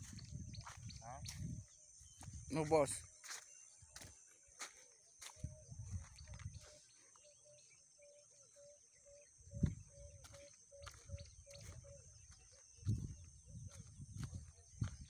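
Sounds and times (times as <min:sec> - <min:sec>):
footsteps on muddy road: 0:00.0 - 0:07.3, 0:09.6 - 0:15.0
insects droning: 0:00.0 - 0:15.0.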